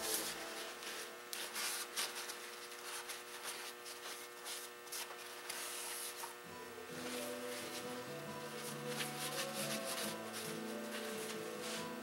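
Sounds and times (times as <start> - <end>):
paper towel rustling and rubbing: 0.0 - 6.4, 7.0 - 12.0
steady hum: 0.0 - 12.0.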